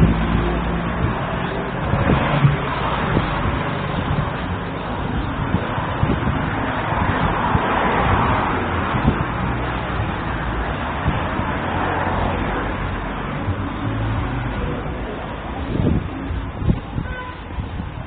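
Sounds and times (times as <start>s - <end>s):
cars going by: 0.0s - 18.0s.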